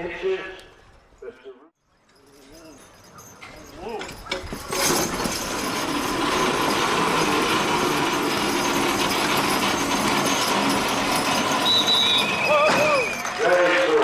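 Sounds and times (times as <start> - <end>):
sled scraping over dirt: 2.0 - 14.0.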